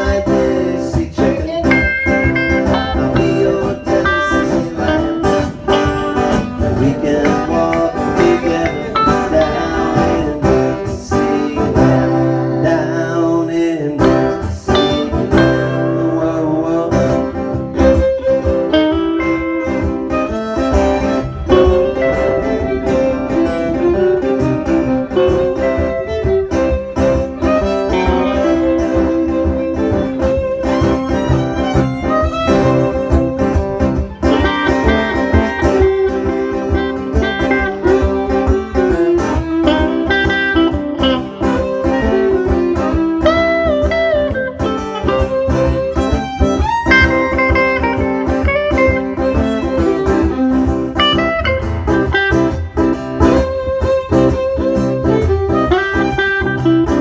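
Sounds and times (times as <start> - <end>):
acoustic guitar: 0.0 - 57.0
electric guitar: 0.0 - 57.0
violin: 0.0 - 57.0.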